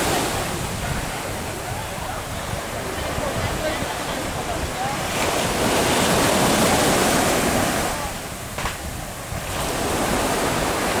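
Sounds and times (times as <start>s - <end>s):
waves washing on shore: 0.0s - 11.0s
wind on microphone: 0.0s - 11.0s.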